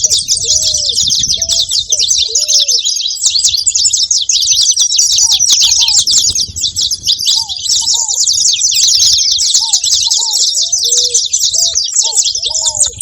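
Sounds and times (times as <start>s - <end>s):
finch singing high chirps: 0.0s - 13.0s.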